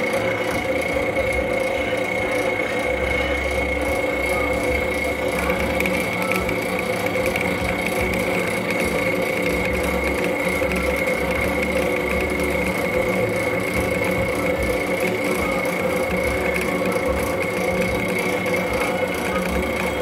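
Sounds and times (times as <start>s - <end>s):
lathe cutting threads on steel: 0.0s - 20.0s.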